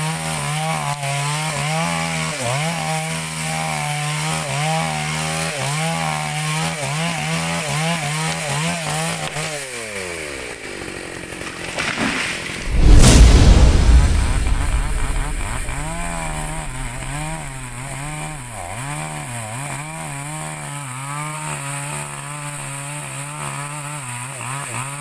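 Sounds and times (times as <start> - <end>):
chainsaw cutting wood: 0.0 - 12.6, 17.2 - 25.0.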